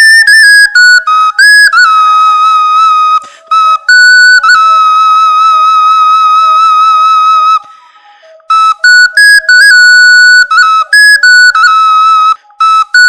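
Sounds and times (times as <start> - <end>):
clay whistle notes: 0.0 - 13.0.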